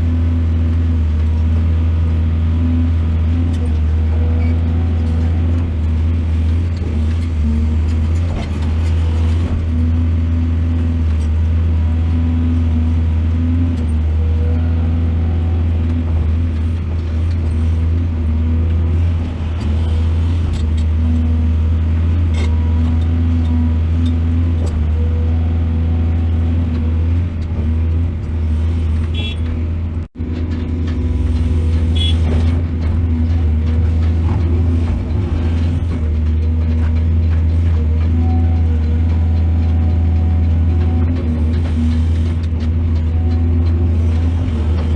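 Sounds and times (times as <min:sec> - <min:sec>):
diesel excavator engine humming: 0:00.0 - 0:44.9.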